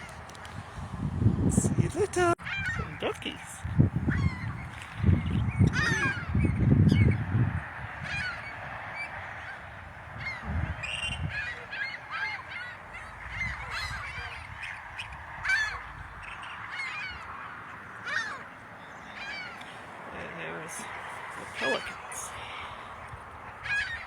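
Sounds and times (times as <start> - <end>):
waterbirds honking: 1.9 - 7.2, 7.8 - 24.0.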